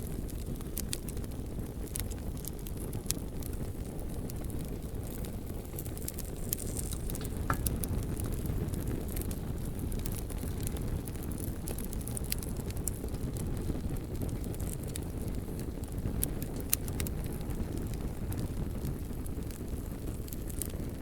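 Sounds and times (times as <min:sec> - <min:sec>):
bonfire burning: 0:00.0 - 0:21.0.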